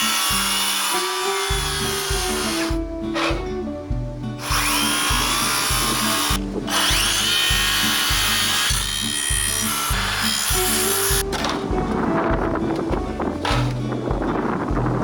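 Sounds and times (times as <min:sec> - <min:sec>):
background music with beat: 0:01.4 - 0:15.0.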